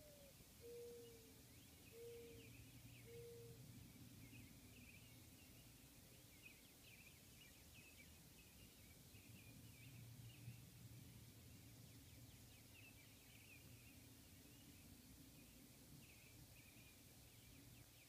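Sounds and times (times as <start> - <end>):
faint low hum: 0.0 - 18.0
small birds chirping: 0.0 - 18.0.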